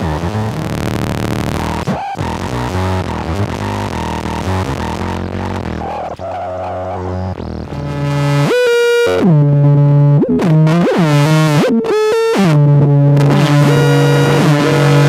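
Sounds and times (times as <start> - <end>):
buzzy synthesizer tone: 0.0 - 15.0.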